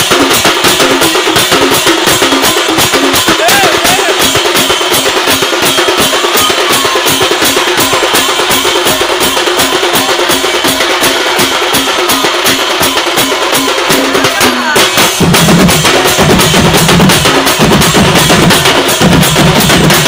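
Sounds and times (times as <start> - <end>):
drums beaten in fast rhythm: 0.0 - 20.0.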